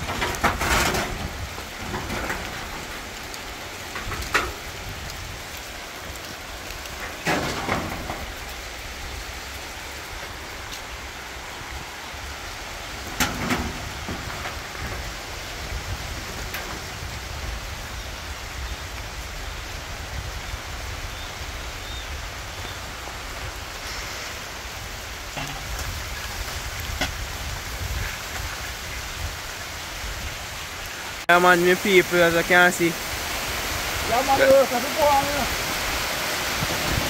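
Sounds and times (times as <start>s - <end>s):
rain hissing: 0.0s - 37.0s.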